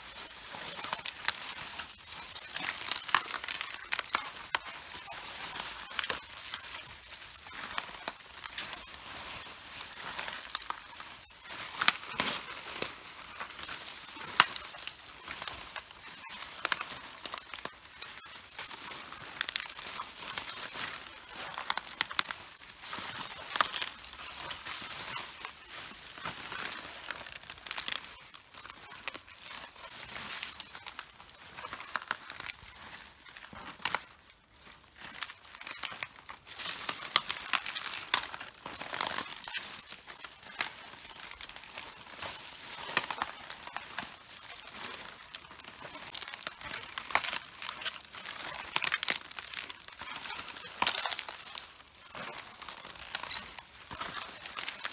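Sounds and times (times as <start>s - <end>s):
cabbage leaves crunching underfoot: 0.0s - 54.9s.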